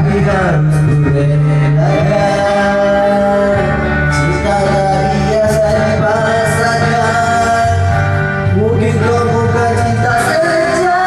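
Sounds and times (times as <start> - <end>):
instrumental backing: 0.0 - 11.0
person singing pop ballad: 0.0 - 11.0.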